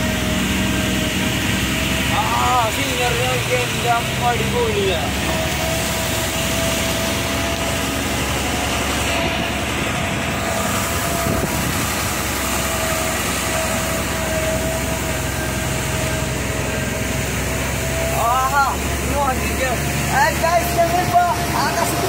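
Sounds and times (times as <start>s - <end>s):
lorry engine running: 0.0s - 22.0s
steady whining tone: 0.0s - 22.0s.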